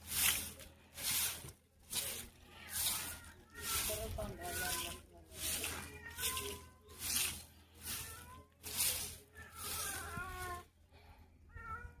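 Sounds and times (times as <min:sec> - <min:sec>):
broom sweeping the ground: 0:00.0 - 0:10.7.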